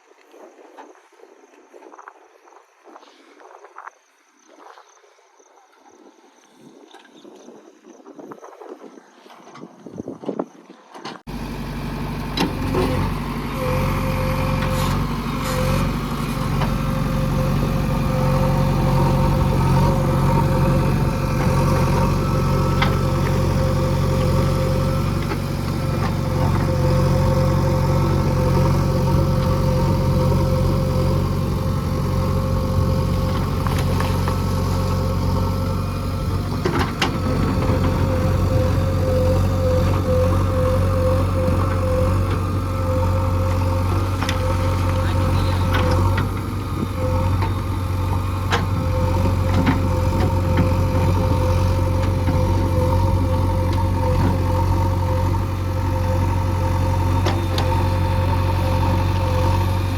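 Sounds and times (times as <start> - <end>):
engine whine: 11.0 - 59.9
heavy diesel engine running: 11.3 - 59.9.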